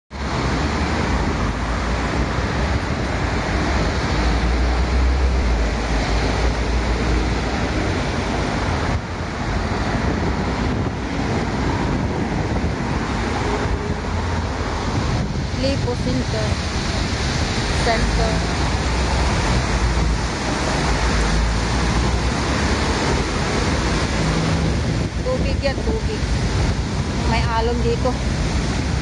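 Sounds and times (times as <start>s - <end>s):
street traffic: 0.1s - 29.0s
wind buffeting a microphone: 0.1s - 29.0s.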